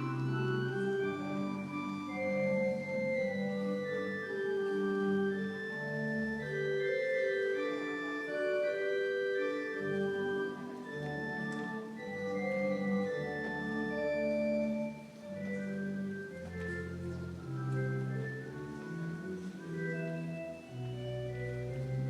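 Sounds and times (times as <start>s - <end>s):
organ playing chords: 0.0s - 22.0s.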